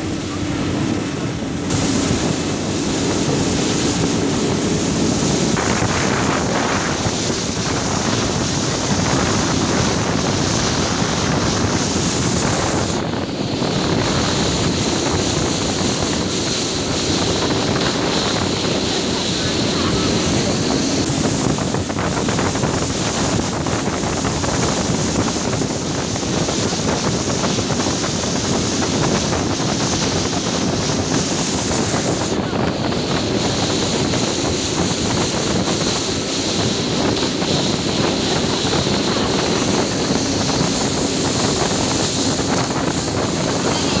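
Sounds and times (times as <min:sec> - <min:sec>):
motorboat engine drone: 0:00.0 - 0:44.0
spray and wake water rushing: 0:00.0 - 0:44.0
wind buffeting microphone: 0:00.0 - 0:44.0.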